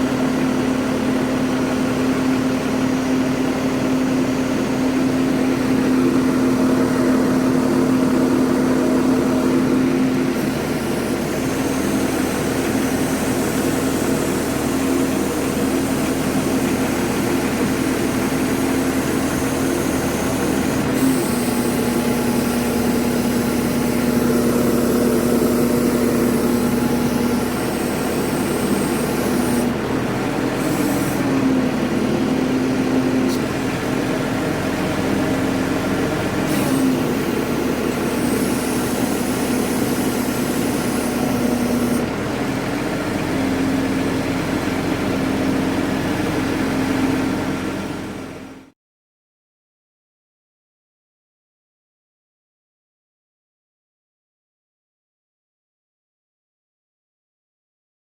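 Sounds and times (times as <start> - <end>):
crane engine humming: 0.0 - 48.7.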